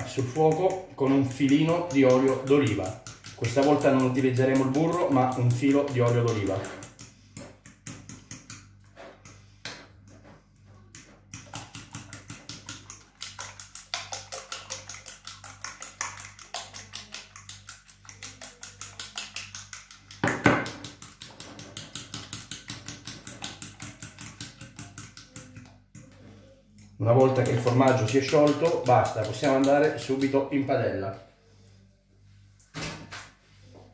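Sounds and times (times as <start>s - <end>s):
fork beating eggs on a plate: 0.0s - 30.8s.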